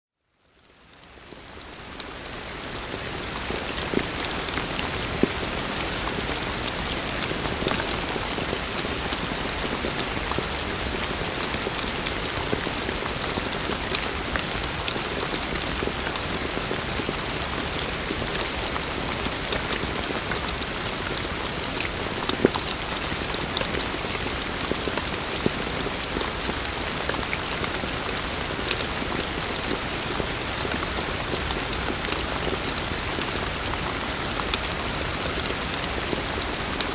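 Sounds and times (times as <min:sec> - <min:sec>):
heavy rain falling: 0:00.8 - 0:36.9.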